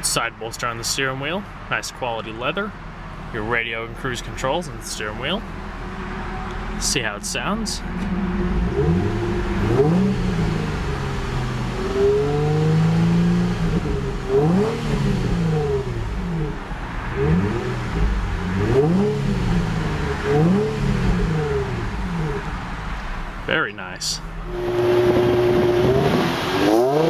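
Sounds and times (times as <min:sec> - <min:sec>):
car engine revving: 0:02.5 - 0:23.5, 0:24.2 - 0:27.0.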